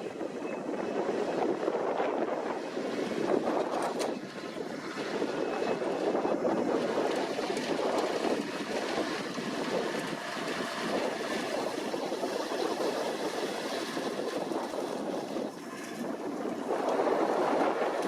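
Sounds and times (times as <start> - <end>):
tractor running: 0.0 - 18.0
wind buffeting microphone: 0.0 - 18.0.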